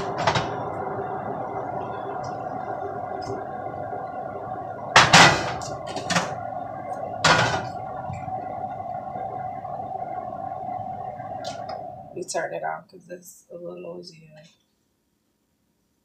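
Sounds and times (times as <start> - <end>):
exhaust fan humming: 0.0 - 14.4.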